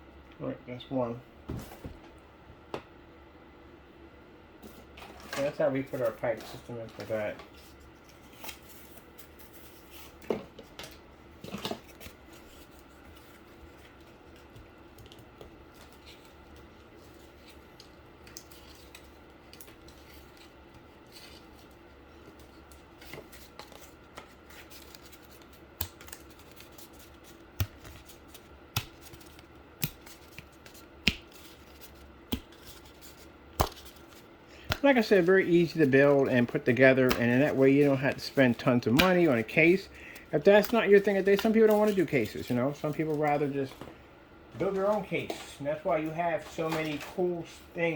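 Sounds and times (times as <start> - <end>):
faint steady hum: 0.0 - 47.9.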